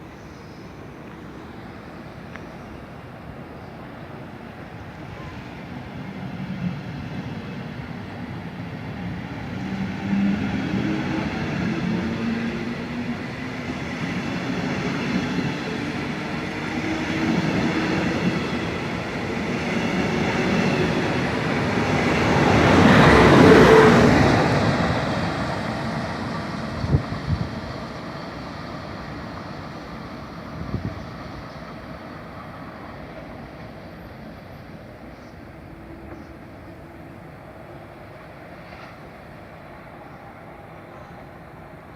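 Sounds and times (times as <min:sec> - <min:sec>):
train running on rails: 0:00.0 - 0:41.9.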